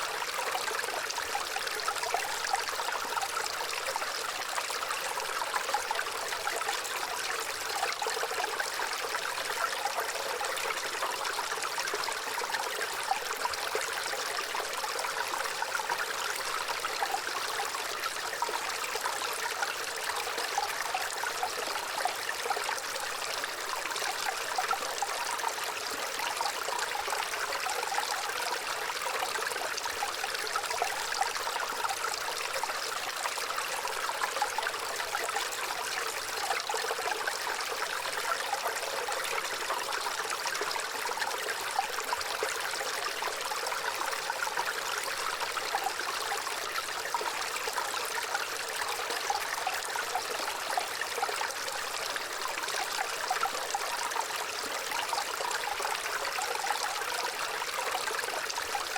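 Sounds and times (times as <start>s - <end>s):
stream trickling and splashing: 0.0s - 58.9s.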